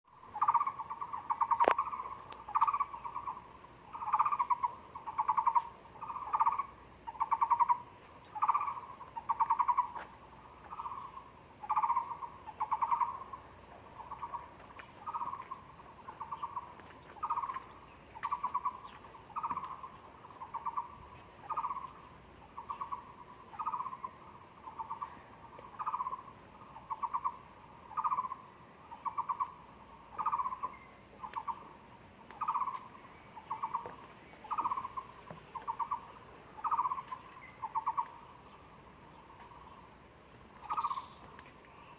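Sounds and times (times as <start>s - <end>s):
barbet pulsed trills: 0.1s - 39.9s, 40.6s - 41.9s.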